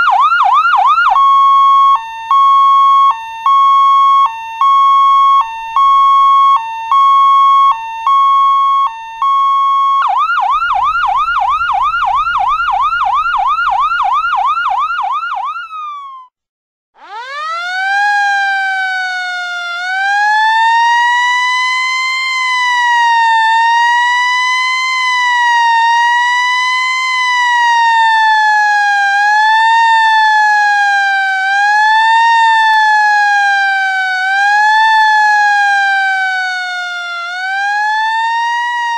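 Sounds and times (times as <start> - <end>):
police siren: 0.0 - 16.3, 17.0 - 38.9.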